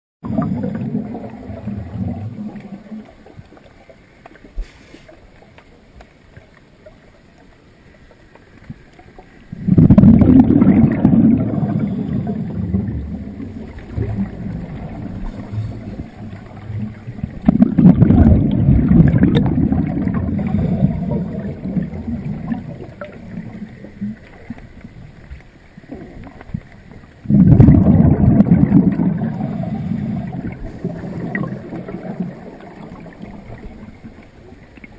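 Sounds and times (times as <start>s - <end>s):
underwater exhaled bubbles: 0.2s - 34.9s.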